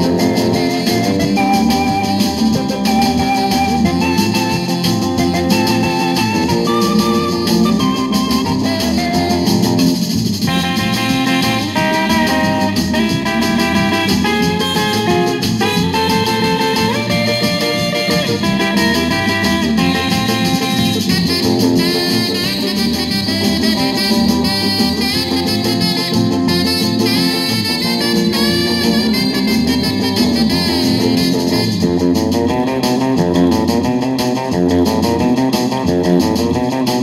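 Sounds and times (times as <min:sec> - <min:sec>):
instrumental rock and roll record: 0:00.0 - 0:37.0.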